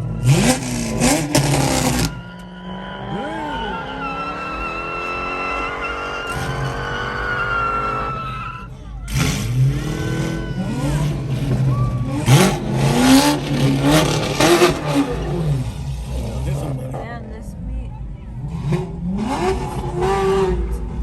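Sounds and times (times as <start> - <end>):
car tires squealing: 0.0 - 17.0
car engines revving: 0.0 - 21.0.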